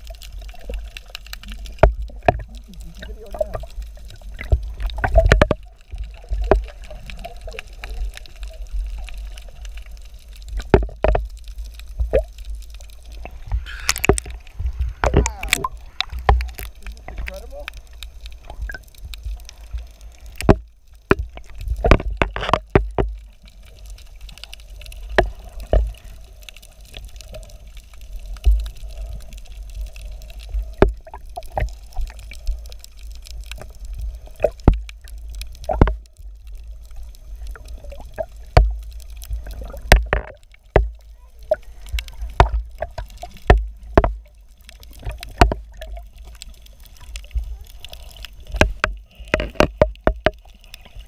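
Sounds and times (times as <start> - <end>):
sea water sloshing and gurgling: 0.0 - 51.0.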